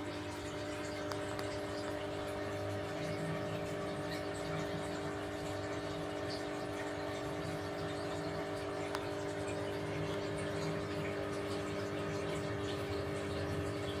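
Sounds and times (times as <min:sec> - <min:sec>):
aquarium pump humming: 0:00.0 - 0:14.0
water moving in tank: 0:00.0 - 0:14.0.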